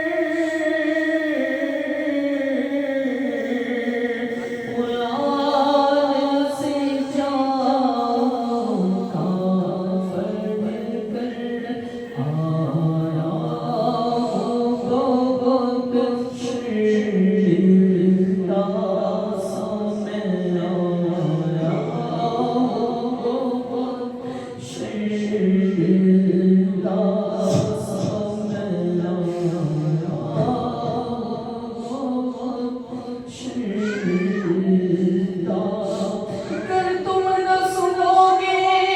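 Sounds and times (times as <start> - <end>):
person singing unaccompanied: 0.0 - 38.9.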